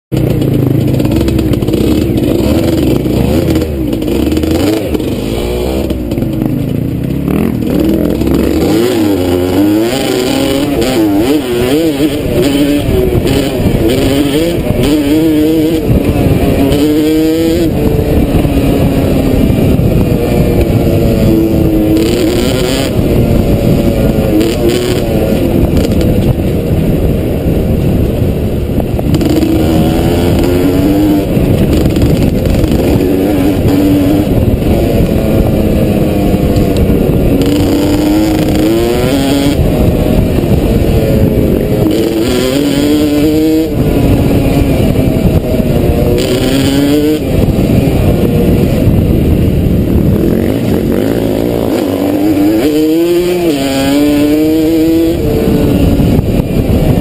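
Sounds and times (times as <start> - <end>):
dirt bike engine revving: 0.1 - 57.0.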